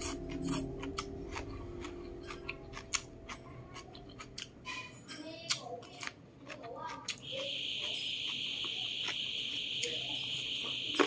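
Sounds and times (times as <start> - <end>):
person chewing with wet clicks: 0.0 - 11.0.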